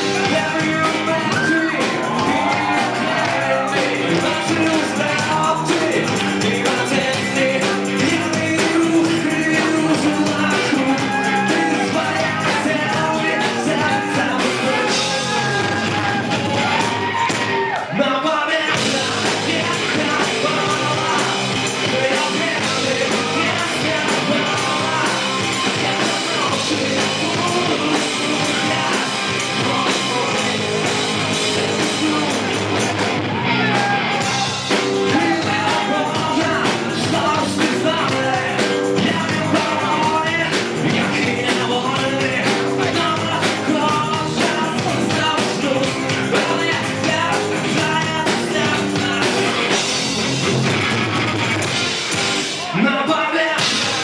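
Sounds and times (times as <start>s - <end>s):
person singing: 0.0s - 49.9s, 52.6s - 54.0s
rock band playing: 0.0s - 54.0s.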